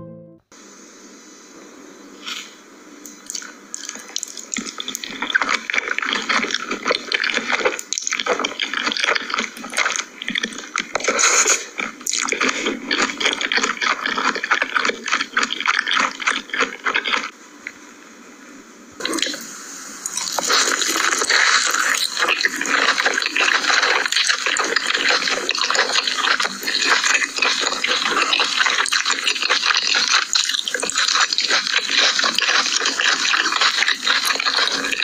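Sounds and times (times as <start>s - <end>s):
wet crackly chewing: 3.1s - 17.3s, 20.1s - 35.0s.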